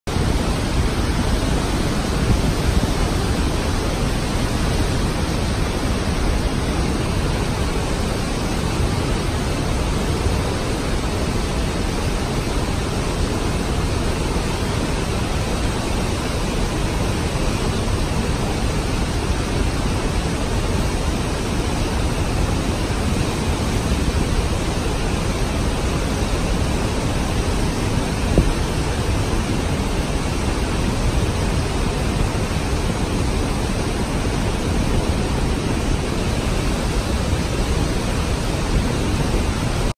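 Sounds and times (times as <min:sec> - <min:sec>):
river rushing through rapids: 0:00.1 - 0:39.9.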